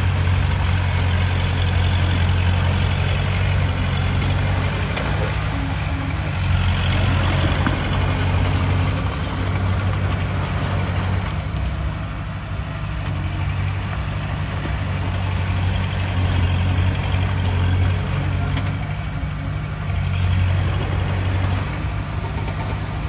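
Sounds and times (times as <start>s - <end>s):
heavy diesel machinery engine drone: 0.0s - 23.0s.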